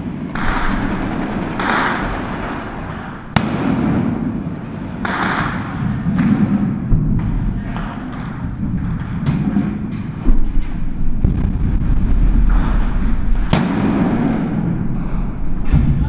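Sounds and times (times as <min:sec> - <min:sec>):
gunfire cracks and blasts: 0:00.0 - 0:09.9, 0:11.2 - 0:14.9
heavy low rumble: 0:00.0 - 0:16.0.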